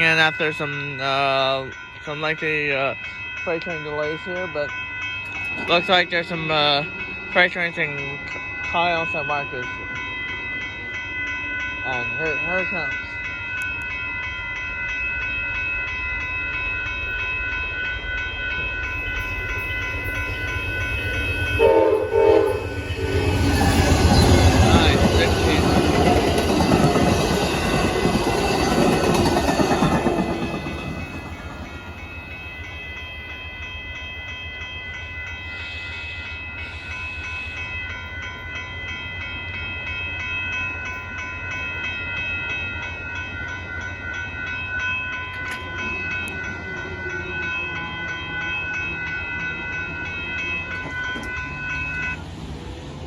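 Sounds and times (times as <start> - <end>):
crossing warning bell ringing: 0.0 - 53.0
passenger train rolling past: 0.0 - 53.0.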